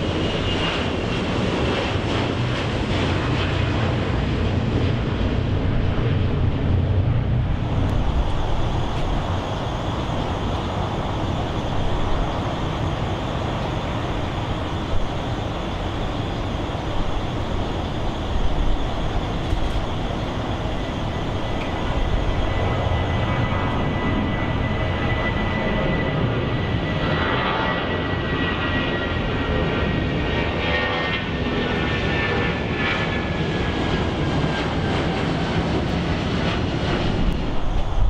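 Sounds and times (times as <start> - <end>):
jet engines at takeoff: 0.0 - 38.0.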